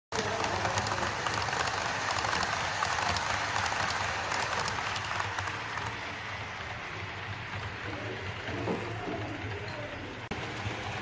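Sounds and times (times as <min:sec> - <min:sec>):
model train wheels clicking: 0:00.1 - 0:11.0.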